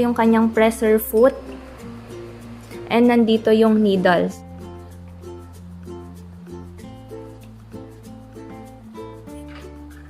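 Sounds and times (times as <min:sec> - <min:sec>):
held bass notes: 0:00.0 - 0:10.0.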